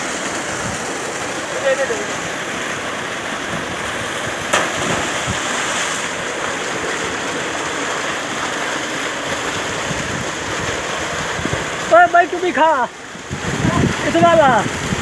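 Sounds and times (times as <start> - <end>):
water gushing into tank: 0.0 - 15.0.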